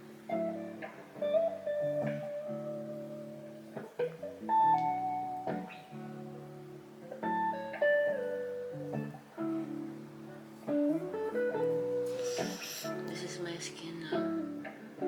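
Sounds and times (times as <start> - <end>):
guitar plucking slow melody: 0.0 - 15.0.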